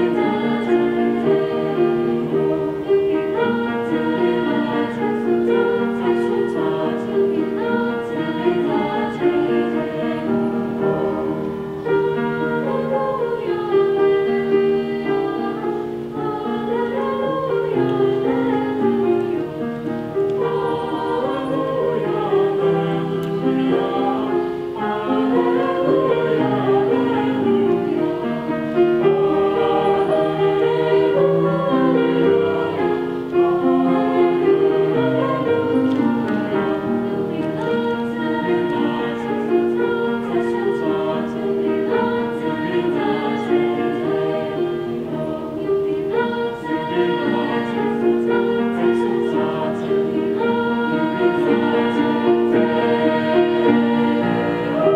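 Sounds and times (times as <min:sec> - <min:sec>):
choir singing held chords: 0:00.0 - 0:54.9
piano accompaniment: 0:00.0 - 0:54.9.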